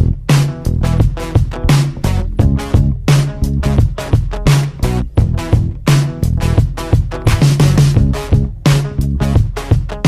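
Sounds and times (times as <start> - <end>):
upbeat funk music: 0.0 - 10.0.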